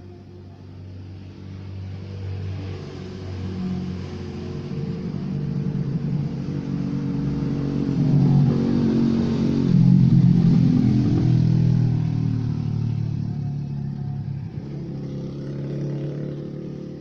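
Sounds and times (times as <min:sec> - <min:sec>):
motor vehicle engine running: 0:00.0 - 0:17.0.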